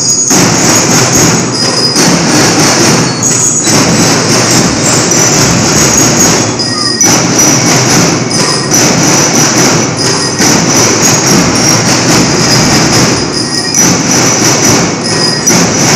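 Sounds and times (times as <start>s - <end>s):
bell-lyre notes: 0.0s - 15.9s
drum and lyre band march: 0.0s - 15.9s
drumming: 0.0s - 15.9s.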